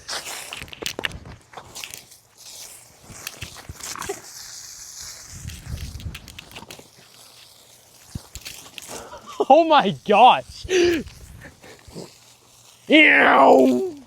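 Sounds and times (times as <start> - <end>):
garden hose water hiss: 0.0 - 14.0.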